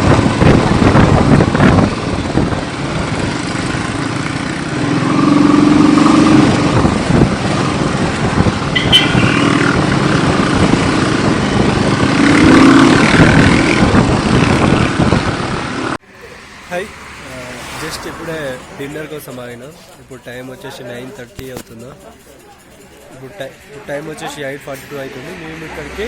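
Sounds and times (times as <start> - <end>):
motorcycle engine: 0.0 - 26.0
wind and road noise: 0.0 - 26.0.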